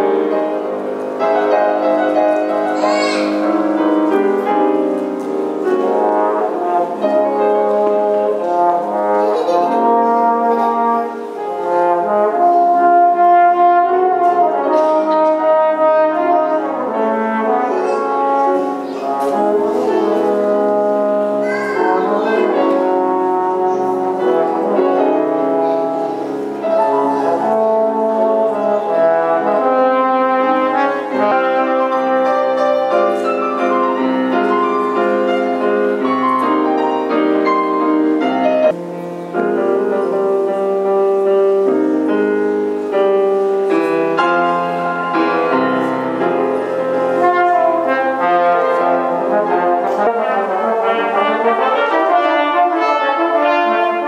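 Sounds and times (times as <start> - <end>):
piano accompaniment: 0.0 - 54.0
trombone melody: 0.0 - 54.0.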